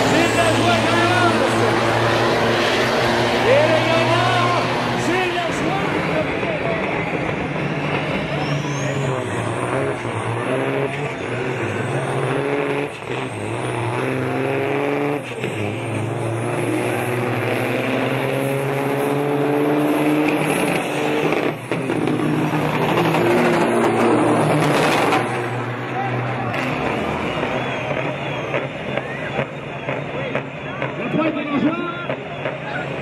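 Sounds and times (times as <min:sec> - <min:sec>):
diesel truck engines at full throttle: 0:00.0 - 0:33.0.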